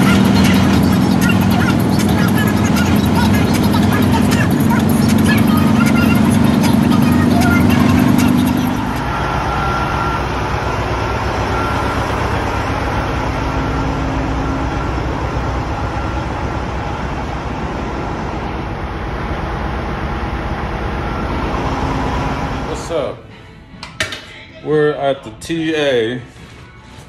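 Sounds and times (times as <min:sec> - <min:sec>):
diesel truck engine idling: 0:00.0 - 0:23.8.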